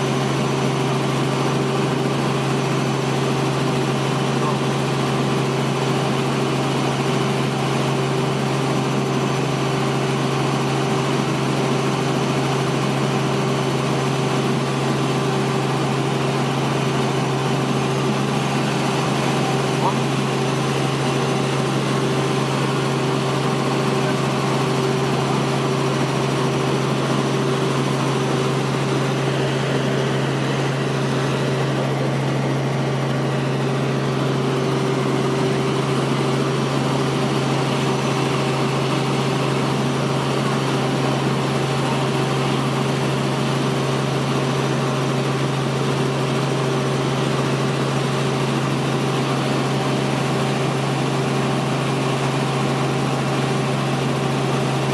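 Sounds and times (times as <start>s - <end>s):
helicopter cabin hum: 0.0s - 54.9s.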